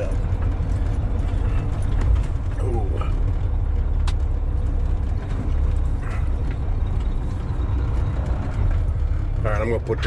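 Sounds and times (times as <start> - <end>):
heavy vehicle engine rumbling: 0.0 - 10.0.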